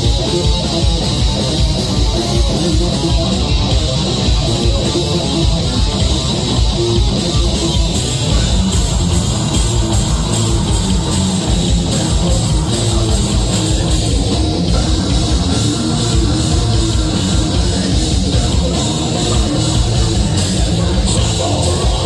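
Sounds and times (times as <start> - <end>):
heavy rock band playing live: 0.0 - 22.0.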